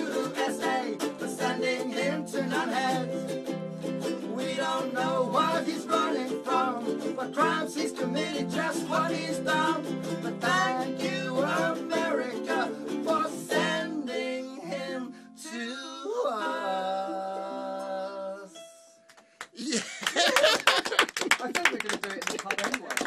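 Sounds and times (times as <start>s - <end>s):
song with plucked strings: 0.0s - 15.5s, 16.1s - 19.4s.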